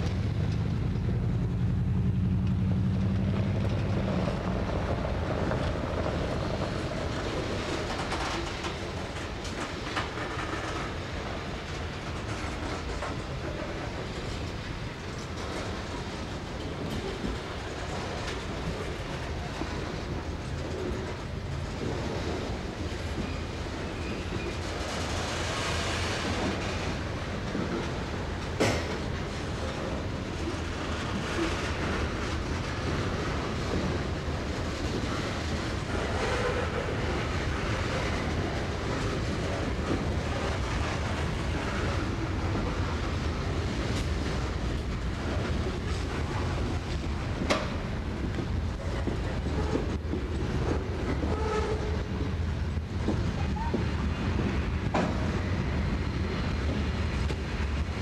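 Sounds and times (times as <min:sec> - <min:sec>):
steam locomotive working hard: 0:00.0 - 0:58.0.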